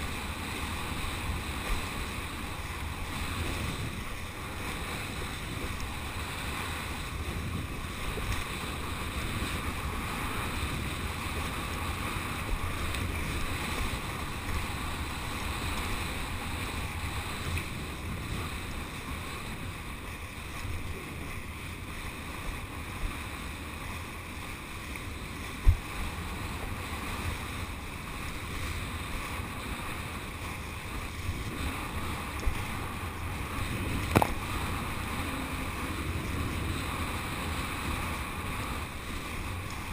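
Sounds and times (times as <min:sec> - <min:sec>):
water rushing under board: 0:00.0 - 0:39.9
wind buffeting microphone: 0:00.0 - 0:39.9.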